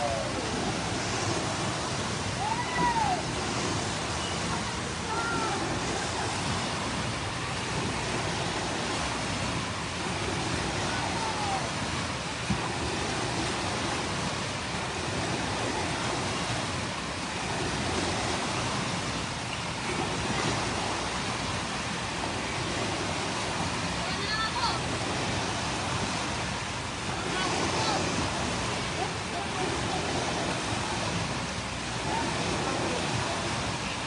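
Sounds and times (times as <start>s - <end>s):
waves breaking in a pool: 0.0s - 34.0s.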